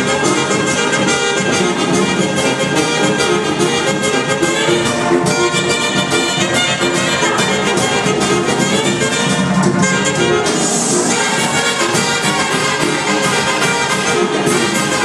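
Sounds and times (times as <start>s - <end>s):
dance music with brass: 0.0s - 15.0s.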